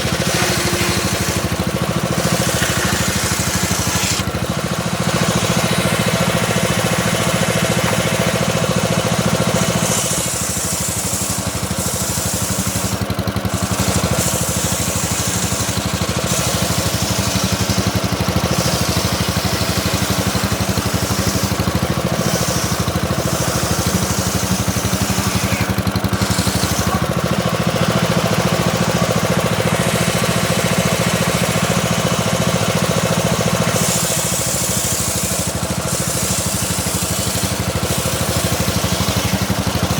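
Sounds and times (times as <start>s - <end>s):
engine drone: 0.0s - 39.9s
saw blade hissing in wood: 0.0s - 39.9s.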